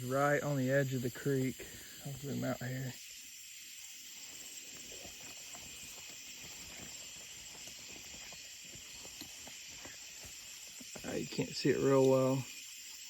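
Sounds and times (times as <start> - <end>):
faint ticks and rustles: 0.0 - 13.0
night insects trilling: 0.0 - 13.0.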